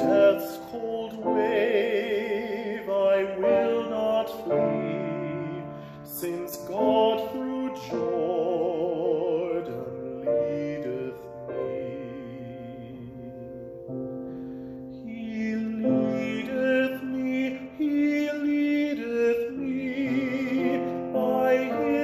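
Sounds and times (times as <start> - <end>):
man singing operatically: 0.0 - 13.9, 14.9 - 22.0
grand piano: 0.0 - 22.0.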